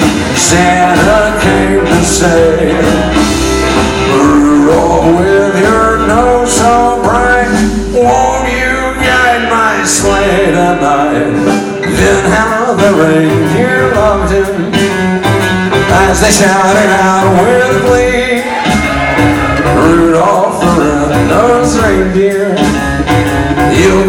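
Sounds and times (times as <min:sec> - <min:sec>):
person singing: 0:00.0 - 0:15.0, 0:15.7 - 0:24.0
drums: 0:00.0 - 0:24.0
electric guitar lead: 0:00.0 - 0:24.0
upright bass: 0:00.0 - 0:24.0.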